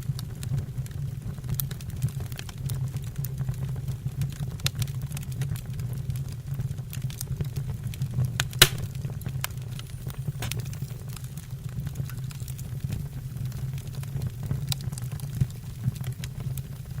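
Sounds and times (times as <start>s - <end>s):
wood fire crackling: 0.0s - 17.0s
fire pops: 0.2s - 17.0s.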